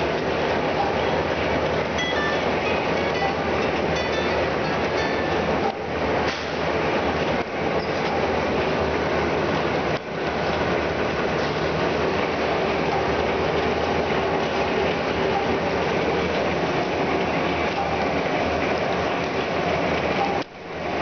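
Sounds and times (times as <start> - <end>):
low machine hum: 0.0 - 21.0
printing machine clattering: 0.0 - 21.0.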